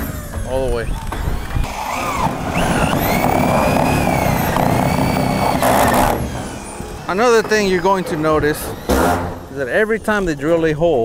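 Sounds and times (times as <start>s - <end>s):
power drill whine: 0.0s - 9.6s.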